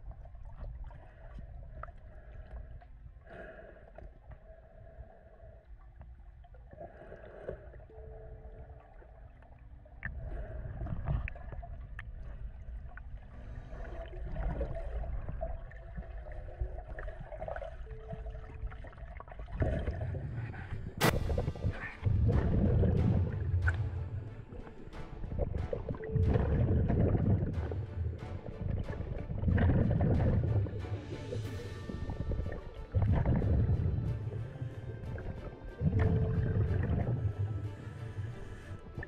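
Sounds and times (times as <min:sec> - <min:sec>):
muffled underwater sloshing: 0:00.0 - 0:39.0.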